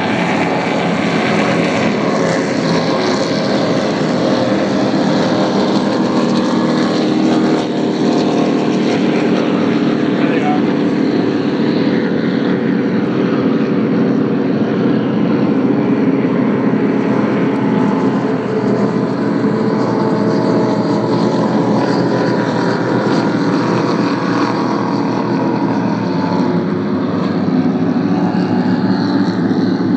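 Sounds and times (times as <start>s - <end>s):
motorboat engine droning: 0.0s - 29.9s
rushing water: 0.0s - 29.9s
wind: 0.0s - 29.9s.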